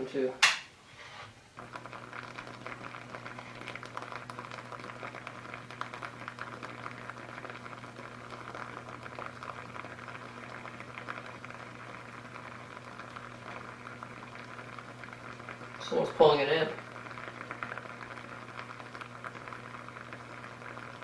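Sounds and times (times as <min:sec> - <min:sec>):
crackle of bursting bubbles: 0:01.5 - 0:21.0.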